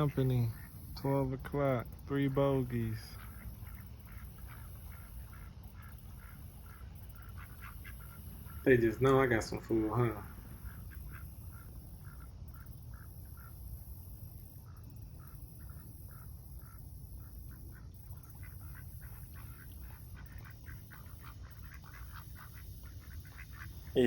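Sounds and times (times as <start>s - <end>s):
ducks quacking: 0.0s - 24.0s.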